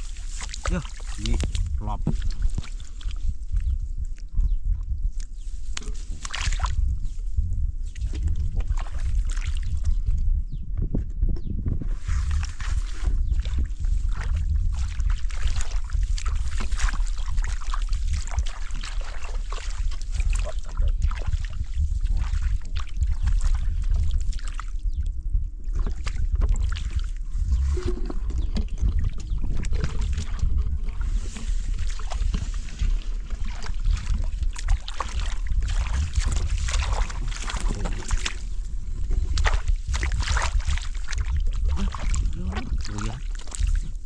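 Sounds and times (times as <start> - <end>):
water splashing and sloshing: 0.0 - 10.2, 12.0 - 44.0
steady low rumble: 0.0 - 44.0.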